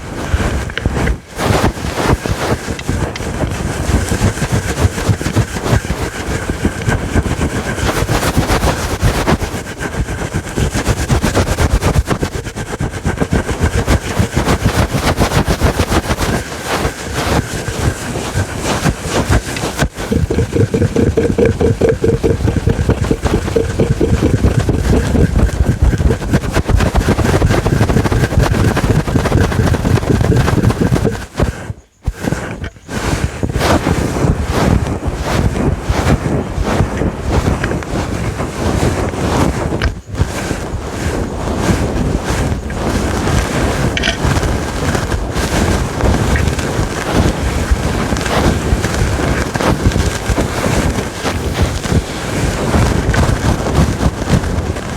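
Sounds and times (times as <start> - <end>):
fingernails scratching microphone windscreen: 0.0 - 54.9.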